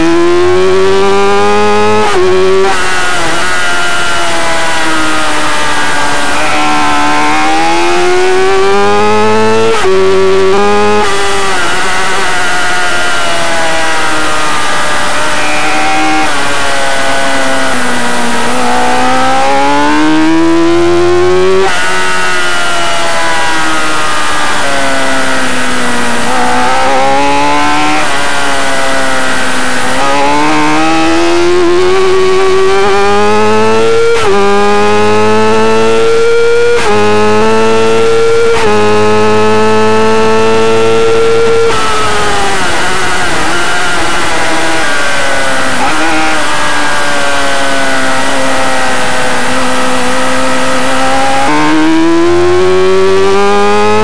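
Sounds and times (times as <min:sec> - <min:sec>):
racing motorcycle engine: 0:00.0 - 0:54.0.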